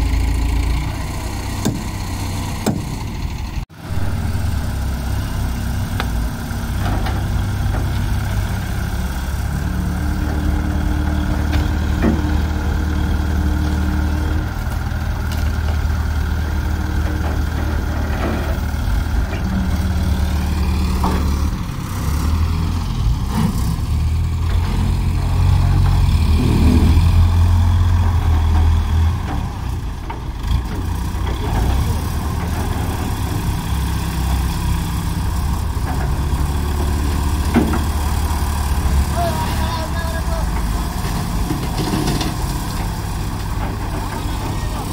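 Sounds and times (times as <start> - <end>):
crane diesel engines running: 0.0 - 44.9.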